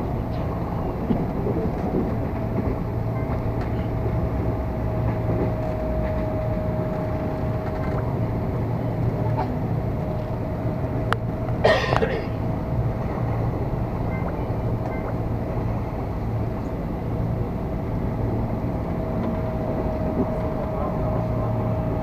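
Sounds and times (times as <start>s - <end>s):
loud train clatter: 0.0s - 22.0s
train low rumble: 0.0s - 22.0s
train whine: 0.0s - 22.0s.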